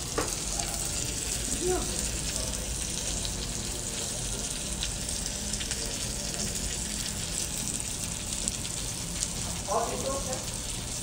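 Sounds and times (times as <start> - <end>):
fish sizzling in oil: 0.0 - 11.0
oil crackles: 0.0 - 11.0.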